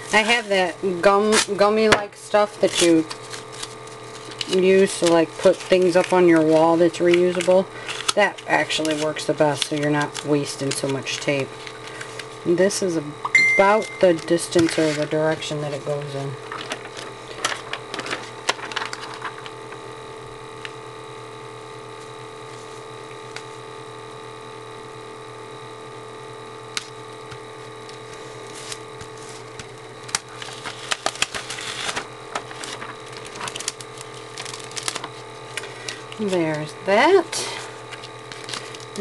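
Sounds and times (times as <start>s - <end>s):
vinyl decal crackling and ticking: 0.0s - 13.0s, 13.6s - 20.8s, 26.7s - 39.0s
steady hum: 0.0s - 39.0s.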